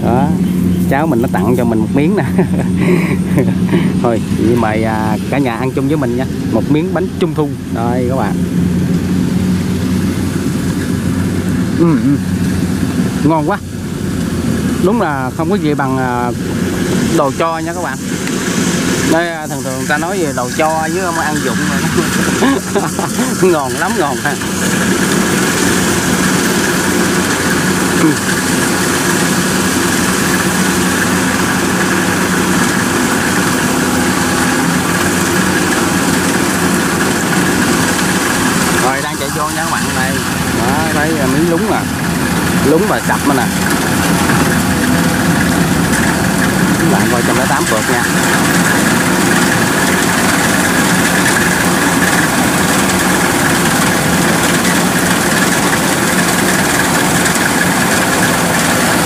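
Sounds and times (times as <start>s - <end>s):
combine harvester engine hum: 0.0s - 59.0s
high whine: 0.0s - 59.0s.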